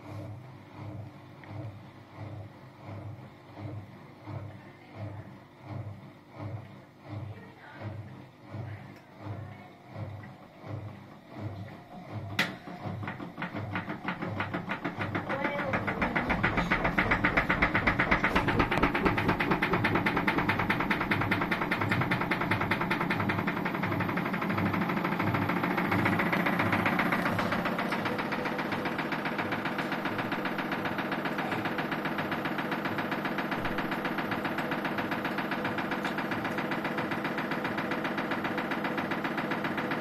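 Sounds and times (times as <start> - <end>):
washing machine spinning: 0.0 - 40.0.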